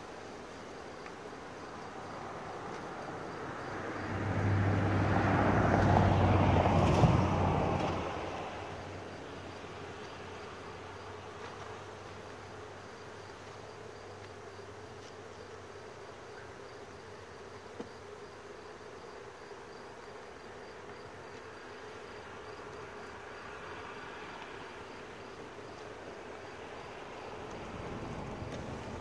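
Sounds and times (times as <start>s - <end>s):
honeybees humming: 0.0s - 29.0s.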